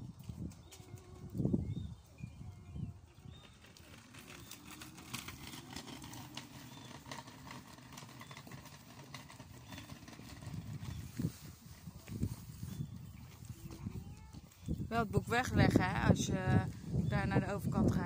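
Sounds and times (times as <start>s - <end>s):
low rumbles on microphone: 0.0s - 18.0s.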